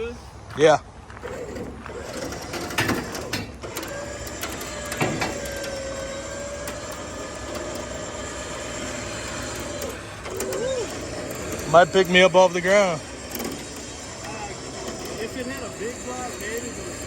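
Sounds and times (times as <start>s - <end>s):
electric winch motor running: 1.1s - 17.0s
winch clicks: 1.2s - 17.0s.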